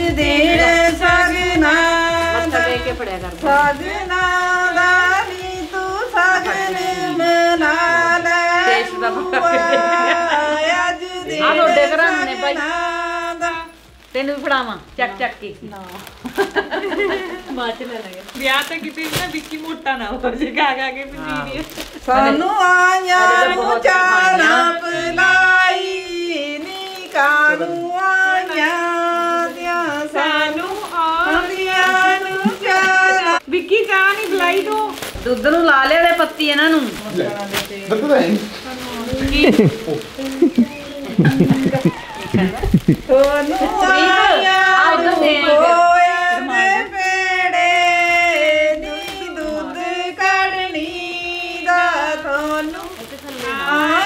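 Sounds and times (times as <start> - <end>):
woman singing folk song: 0.0 - 13.9, 21.3 - 37.0, 40.2 - 54.0.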